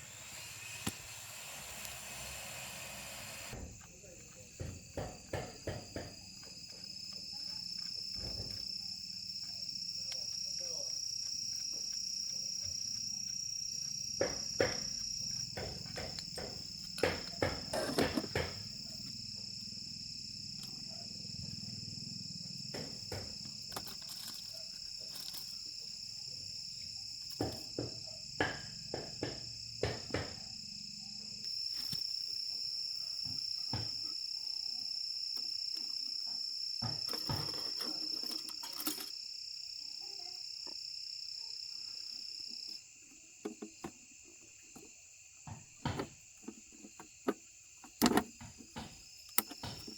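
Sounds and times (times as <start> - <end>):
high-pitched insect drone: 0.0 - 42.8.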